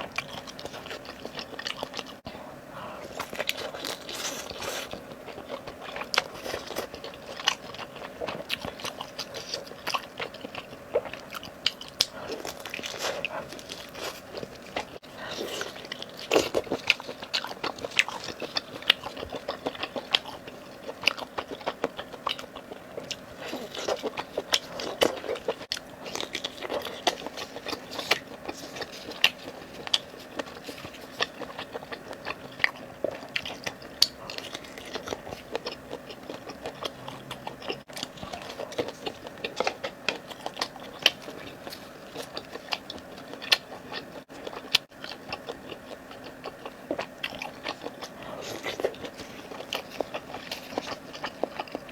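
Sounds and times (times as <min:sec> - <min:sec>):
person biting and chewing food: 0:03.0 - 0:51.9.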